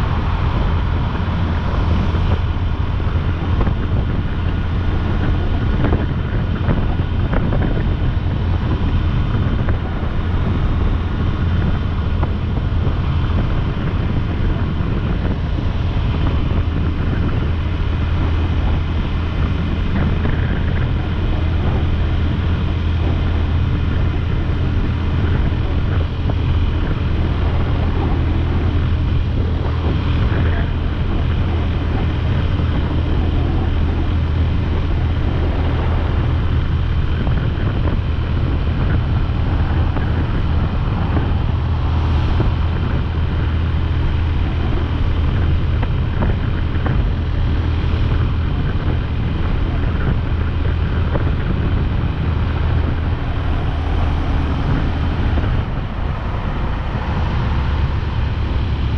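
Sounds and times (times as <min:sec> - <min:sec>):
motorcycle engine hum: 0:00.0 - 0:58.9
wind rush on microphone: 0:00.0 - 0:58.9.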